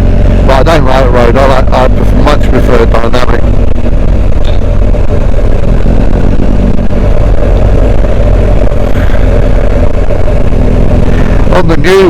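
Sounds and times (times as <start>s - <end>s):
motorcycle engine running: 0.0s - 12.0s
loud wind noise: 1.6s - 12.0s.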